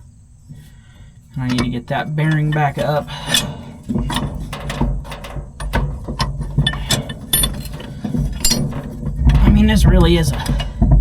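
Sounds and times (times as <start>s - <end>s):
metallic clicks and knocks: 0.0s - 11.0s
steady low hum: 0.0s - 11.0s.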